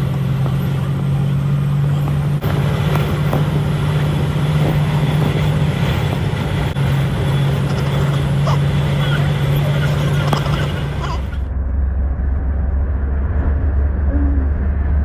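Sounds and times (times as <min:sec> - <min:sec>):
constant low hum: 0:00.0 - 0:15.0
road noise: 0:00.0 - 0:15.0
vehicle engine drone: 0:00.0 - 0:15.0.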